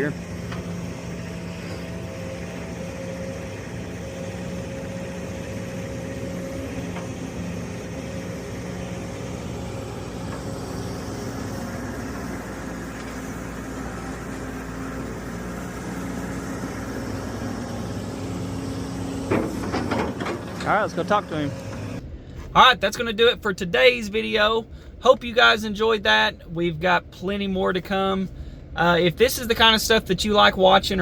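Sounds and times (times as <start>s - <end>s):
engine humming steadily: 0.0s - 31.0s.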